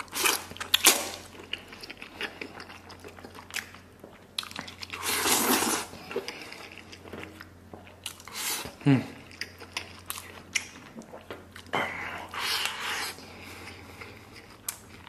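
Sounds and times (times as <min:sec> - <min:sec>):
person chewing with wet clicks: 0:00.0 - 0:15.0.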